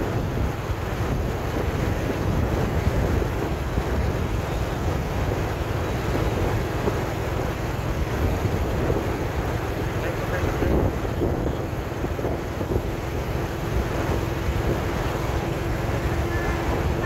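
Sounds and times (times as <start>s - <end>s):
vehicle low rumble: 0.0s - 17.0s
wind rush on microphone: 0.0s - 17.0s.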